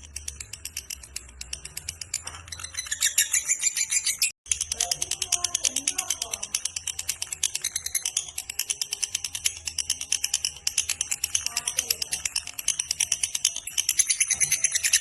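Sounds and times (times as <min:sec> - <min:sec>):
bird chattering trill: 0:00.0 - 0:15.0.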